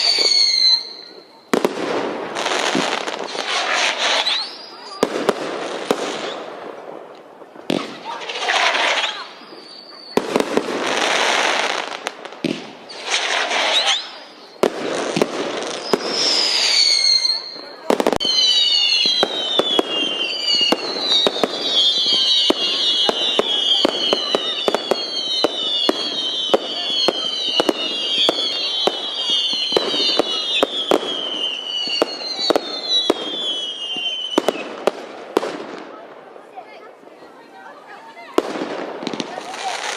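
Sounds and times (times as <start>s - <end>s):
high firework whistle: 0.0s - 1.8s, 2.4s - 6.5s, 7.8s - 34.9s
fireworks crackling hiss: 0.0s - 39.9s.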